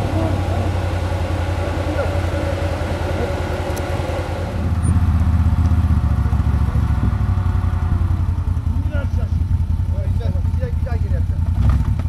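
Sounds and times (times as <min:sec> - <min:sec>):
quad bike engine puttering: 0:00.0 - 0:12.0.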